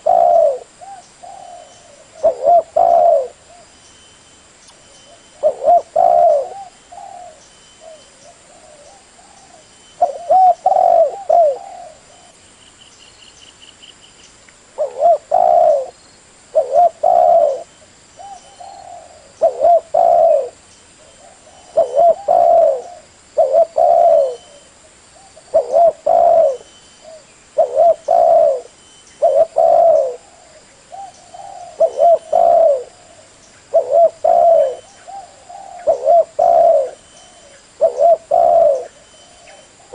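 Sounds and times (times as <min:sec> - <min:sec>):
dove cooing: 0:00.0 - 0:03.7, 0:05.1 - 0:12.4, 0:14.8 - 0:39.9.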